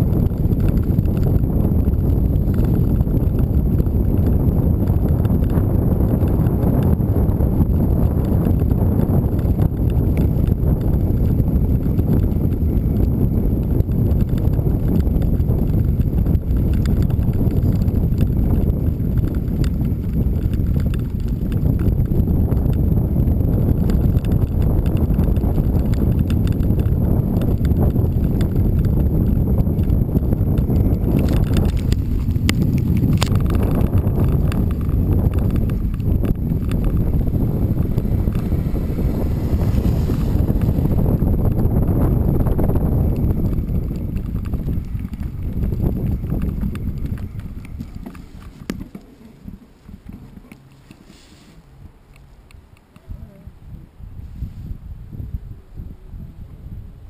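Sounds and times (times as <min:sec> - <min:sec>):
tyres on loose gravel: 0:00.0 - 0:53.4
bicycle rolling rumble: 0:00.0 - 0:57.0
wind on microphone: 0:00.0 - 0:57.0.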